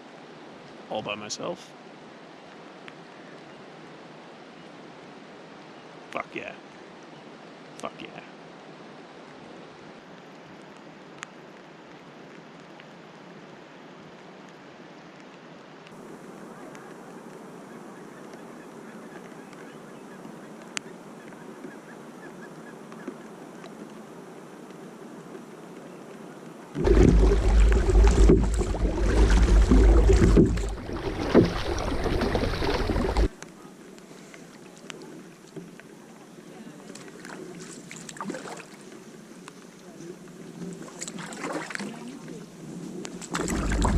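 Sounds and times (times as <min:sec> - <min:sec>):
rain falling on water: 0:00.0 - 0:43.9.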